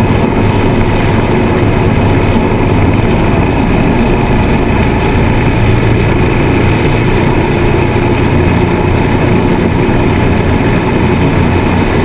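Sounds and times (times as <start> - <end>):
motorcycle engine cruising: 0.0 - 12.0
wind on microphone: 0.0 - 12.0.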